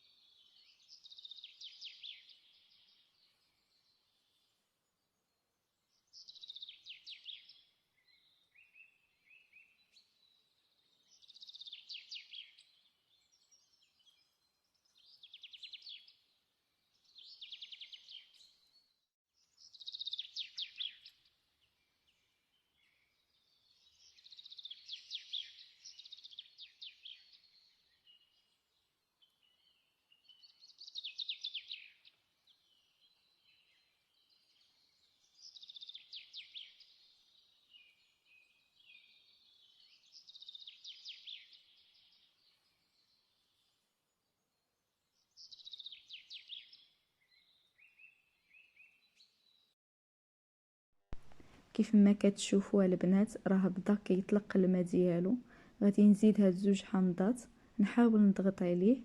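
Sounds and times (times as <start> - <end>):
songbird singing trills: 0.0 - 5.4, 6.0 - 16.3, 16.9 - 18.8, 19.4 - 49.7.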